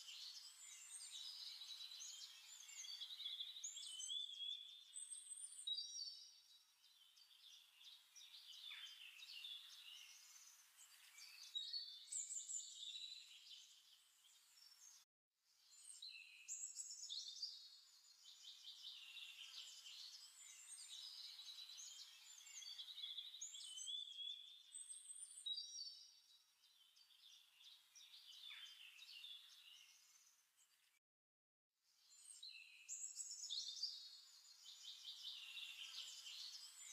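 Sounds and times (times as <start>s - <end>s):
small birds chirping: 0.0s - 31.0s, 32.0s - 36.9s.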